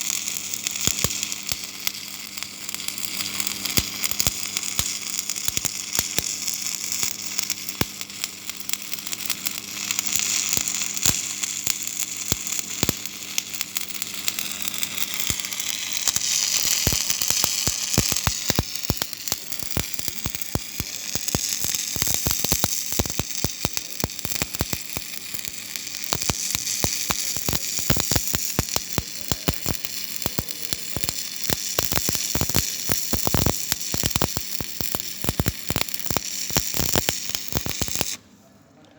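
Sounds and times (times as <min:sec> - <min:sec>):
welding arc sizzling and popping: 0:00.0 - 0:38.3.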